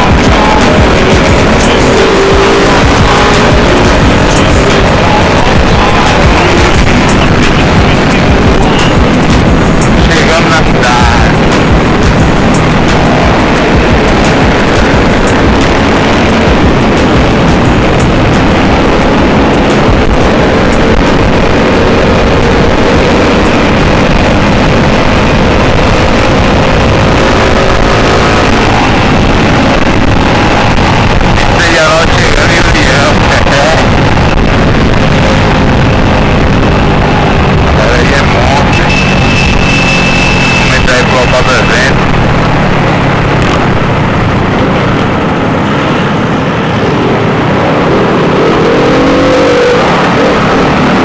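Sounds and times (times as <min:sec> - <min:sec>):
vehicle engines running: 0:00.0 - 0:51.0
wind noise on microphone: 0:00.0 - 0:51.0.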